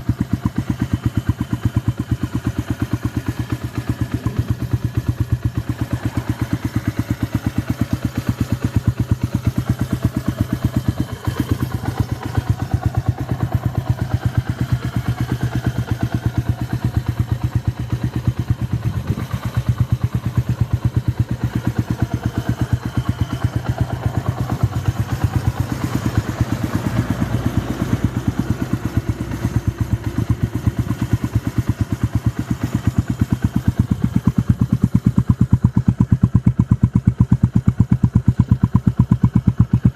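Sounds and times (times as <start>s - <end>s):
motorcycle idling: 0.0s - 39.9s.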